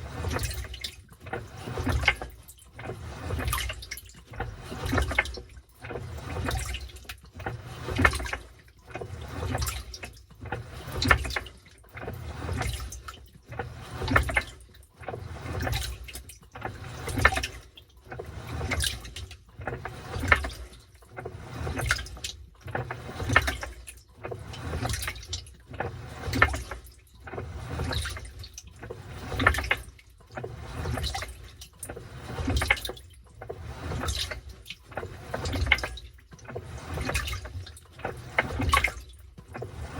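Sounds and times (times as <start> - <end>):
washing machine sloshing water: 0.0 - 39.9.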